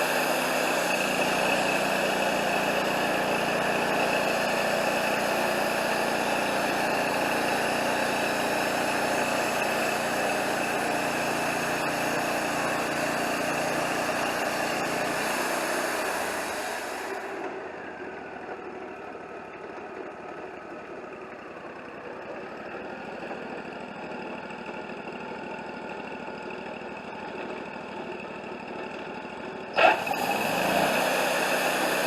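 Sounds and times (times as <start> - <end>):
band sawmill running: 0.0 - 32.0.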